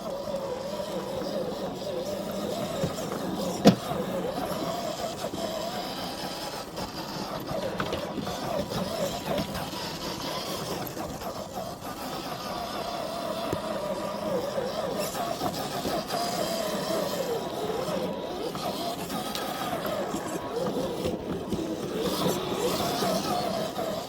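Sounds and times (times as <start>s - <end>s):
toy crawler motor whining: 0.0s - 24.0s.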